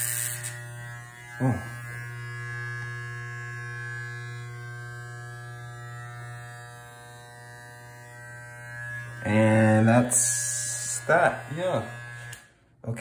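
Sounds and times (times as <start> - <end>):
electric hair clippers buzzing: 0.0 - 12.6.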